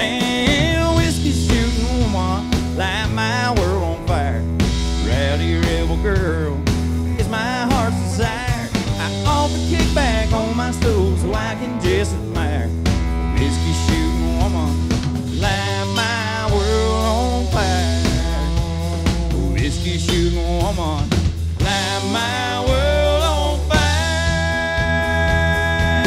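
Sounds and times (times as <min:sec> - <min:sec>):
bass guitar: 0:00.0 - 0:26.0
drum kit: 0:00.0 - 0:26.0
electric guitar lead melody: 0:00.0 - 0:26.0.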